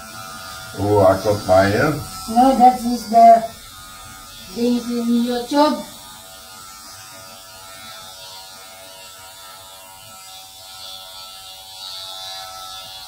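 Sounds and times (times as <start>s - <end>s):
electric shaver buzzing: 0.0s - 13.0s.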